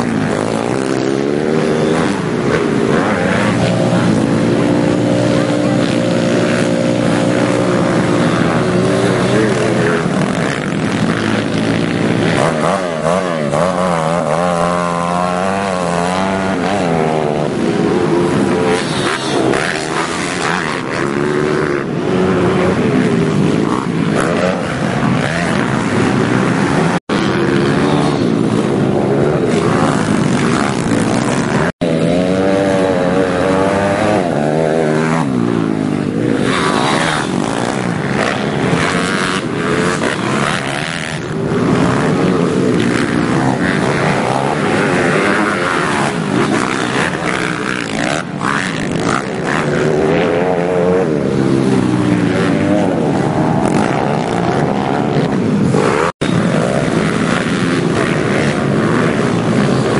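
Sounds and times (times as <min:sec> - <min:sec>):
pit bike engines revving: 0:00.0 - 0:59.9.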